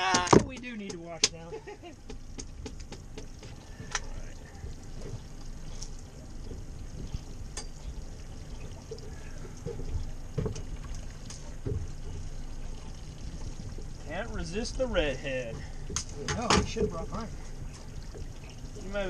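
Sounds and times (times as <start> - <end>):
hose water splashing on deck: 2.0 - 19.0.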